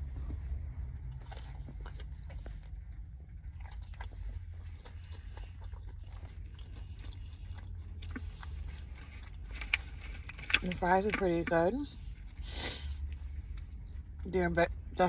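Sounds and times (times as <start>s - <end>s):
chewing with soft crunches: 0.0s - 15.0s
low steady hum: 0.0s - 15.0s.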